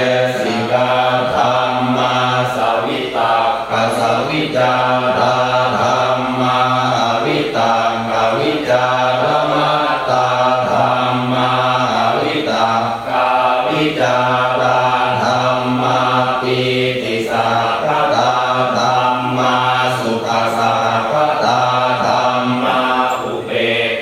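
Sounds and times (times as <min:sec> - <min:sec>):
group chanting in unison: 0:00.0 - 0:24.0.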